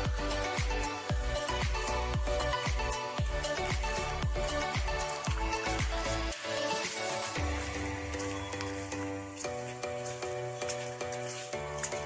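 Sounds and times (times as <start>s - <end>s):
music with deep bass beat: 0.0s - 12.0s.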